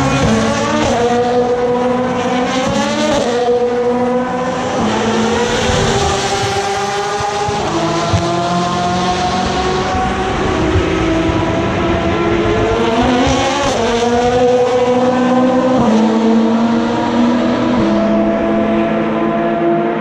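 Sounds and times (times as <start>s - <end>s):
other race car engines: 0.0s - 20.0s
race car engine accelerating: 0.0s - 20.0s.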